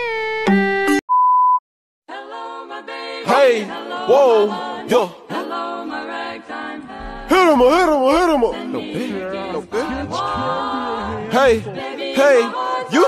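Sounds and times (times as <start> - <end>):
song with singing voice: 2.1 - 13.0.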